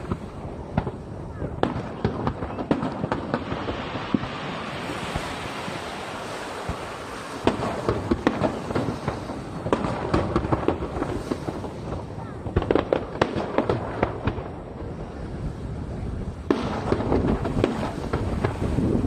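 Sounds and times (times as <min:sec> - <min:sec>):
sharp fireworks pops: 0:00.0 - 0:14.7, 0:16.0 - 0:19.0
fireworks crackling: 0:00.0 - 0:19.0.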